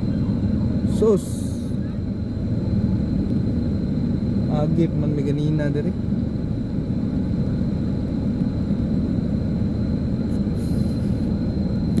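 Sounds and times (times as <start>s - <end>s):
vehicle engine and traffic rumble: 0.0s - 12.0s.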